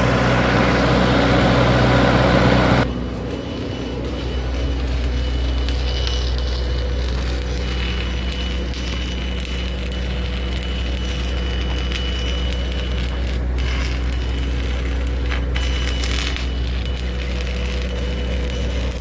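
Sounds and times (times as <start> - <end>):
diesel engine running under load: 0.0 - 19.0
welding arc crackling: 0.0 - 19.0.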